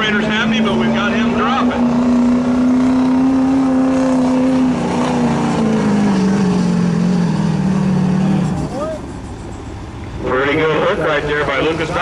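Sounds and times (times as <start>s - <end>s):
diesel engine at high revs: 0.0s - 12.0s.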